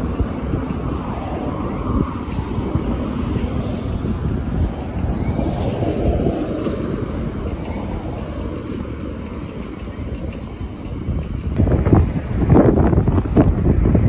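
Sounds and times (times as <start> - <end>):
bicycle road rumble: 0.0 - 14.0
wind on microphone: 0.0 - 14.0.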